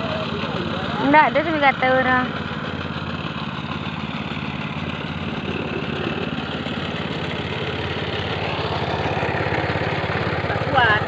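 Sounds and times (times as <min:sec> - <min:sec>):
tractor engine chugging: 0:00.0 - 0:11.0.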